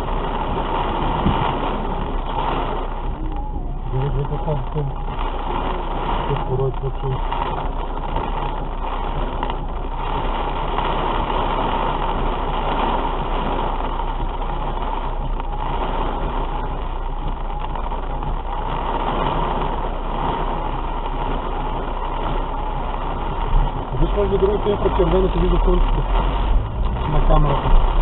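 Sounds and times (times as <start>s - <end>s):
heavy rain drumming on car roof: 0.0s - 28.0s.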